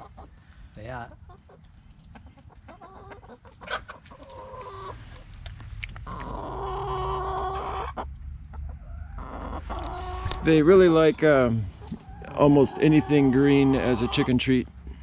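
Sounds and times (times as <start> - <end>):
hens clucking: 0.0 - 0.4, 1.0 - 15.0.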